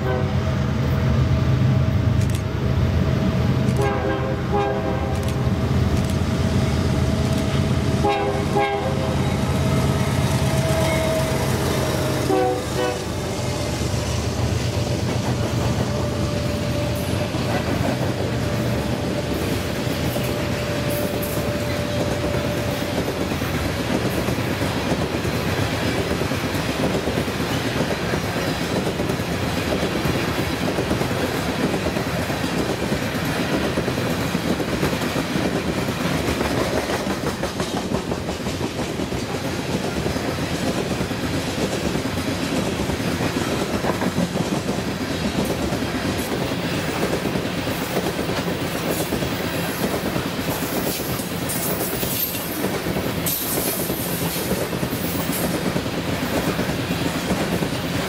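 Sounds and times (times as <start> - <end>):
train wheels clicking over rail joints: 5.1 - 58.0.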